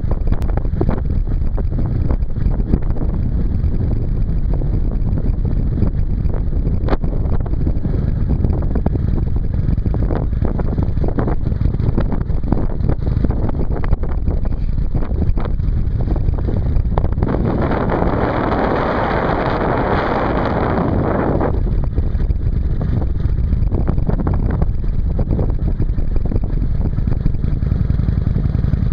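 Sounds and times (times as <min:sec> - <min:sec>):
motorcycle engine running: 0:00.0 - 0:28.9
wind buffeting microphone: 0:00.0 - 0:28.9.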